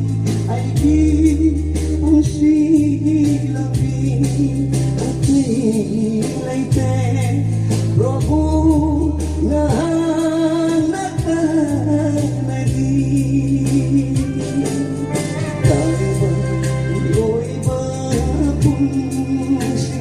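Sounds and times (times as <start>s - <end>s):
song with percussion beat: 0.0s - 20.0s.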